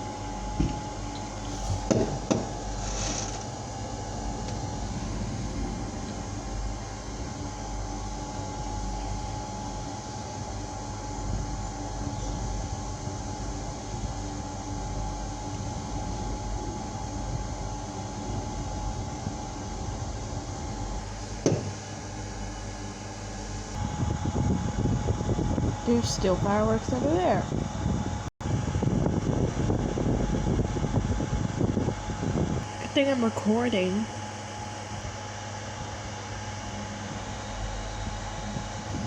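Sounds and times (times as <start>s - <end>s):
low machine rumble and hum: 0.0s - 39.0s.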